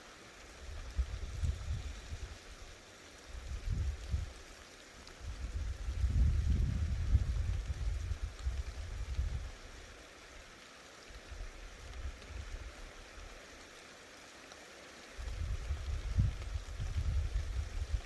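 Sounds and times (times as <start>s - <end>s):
rain hiss: 0.0s - 18.0s.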